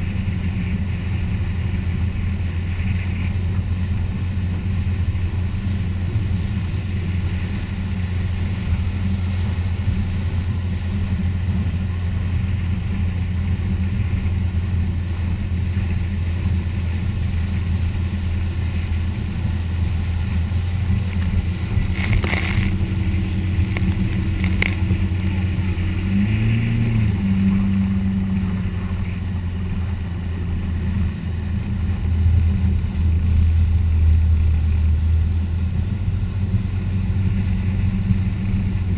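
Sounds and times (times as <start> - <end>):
boat engine running: 0.0 - 38.9
rushing wind: 0.0 - 38.9
water wash: 0.0 - 38.9.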